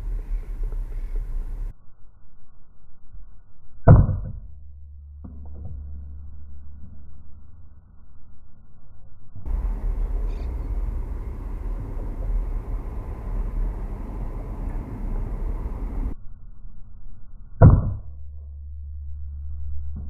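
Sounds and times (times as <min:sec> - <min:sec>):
low rushing noise: 0:00.0 - 0:03.9, 0:04.5 - 0:20.0.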